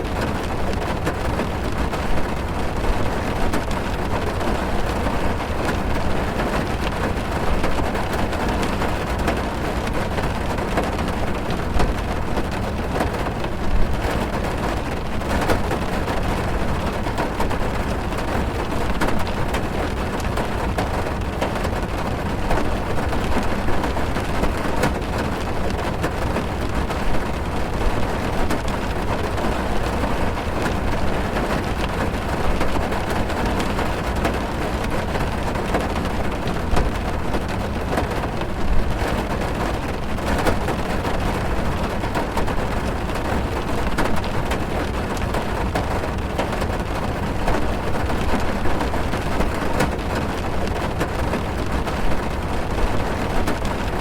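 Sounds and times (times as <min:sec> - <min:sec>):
heavy rain on a car: 0:00.0 - 0:54.0.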